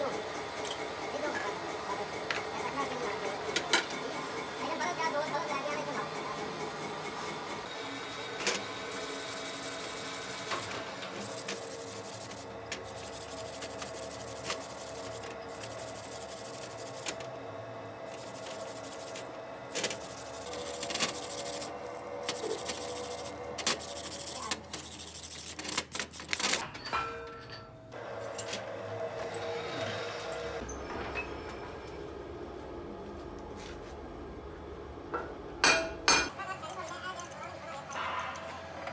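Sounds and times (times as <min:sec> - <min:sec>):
workshop machine running: 0:00.0 - 0:38.9.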